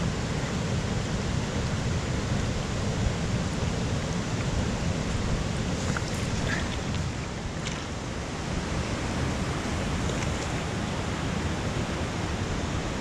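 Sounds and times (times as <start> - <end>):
steady rushing noise: 0.0 - 13.0
wind rumble on microphone: 0.0 - 13.0.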